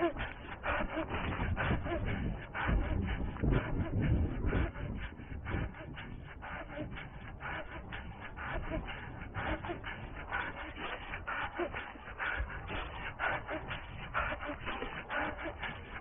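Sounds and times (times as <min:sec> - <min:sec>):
hard breathing: 0:00.0 - 0:16.0.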